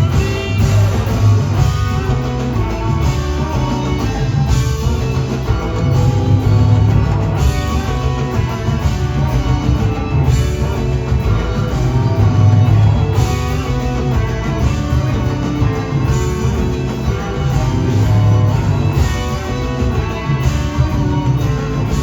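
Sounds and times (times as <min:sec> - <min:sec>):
electric guitar lines: 0:00.0 - 0:22.0
heavy bass: 0:00.0 - 0:22.0
live rock band playing: 0:00.0 - 0:22.0.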